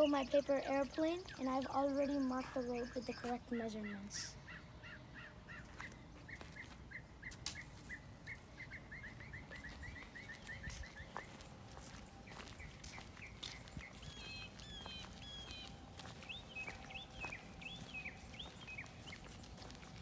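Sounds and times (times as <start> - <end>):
bird singing rising and falling notes: 0.0 - 20.0.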